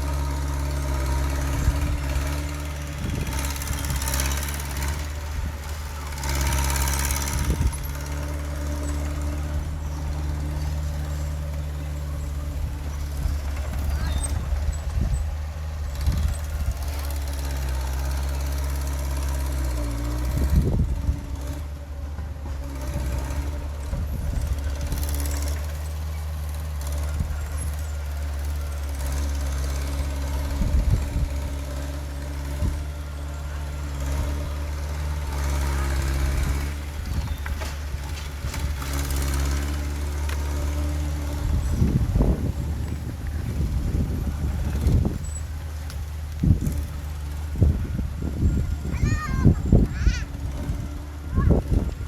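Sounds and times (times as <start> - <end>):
heavy diesel engine under load: 0.0 - 52.0.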